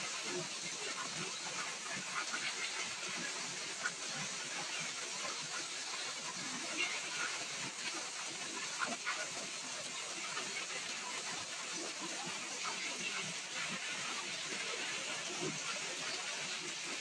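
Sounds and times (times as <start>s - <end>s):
drips and patters: 0.0s - 17.0s.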